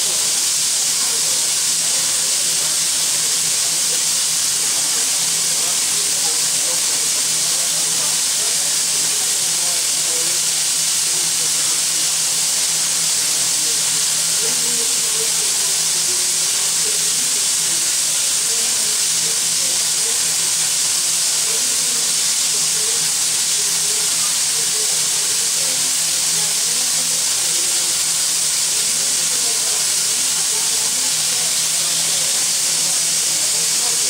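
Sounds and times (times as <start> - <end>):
steam hissing: 0.0 - 34.0.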